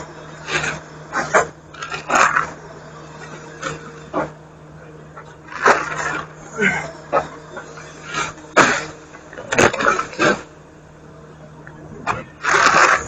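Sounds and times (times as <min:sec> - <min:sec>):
garbage truck engine idling: 0:00.0 - 0:13.0.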